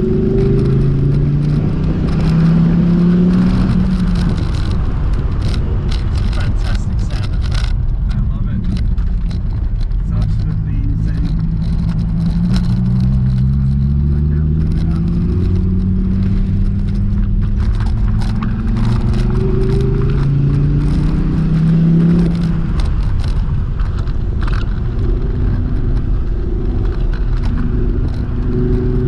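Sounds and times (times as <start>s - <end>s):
car engine from inside cabin: 0.0s - 29.0s.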